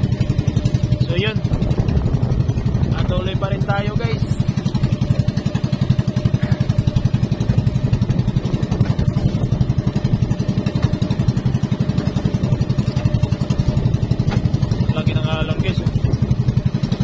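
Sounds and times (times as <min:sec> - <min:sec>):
boat engine puttering: 0:00.0 - 0:17.0.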